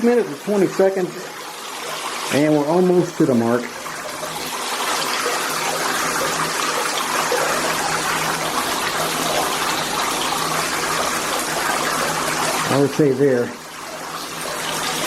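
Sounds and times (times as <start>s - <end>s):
shower water spraying into bathtub: 0.0s - 15.0s.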